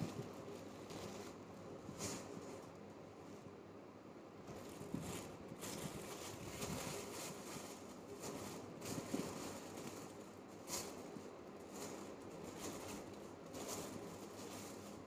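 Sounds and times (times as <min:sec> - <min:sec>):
plastic glove crinkling: 0:00.0 - 0:02.8, 0:04.5 - 0:15.0.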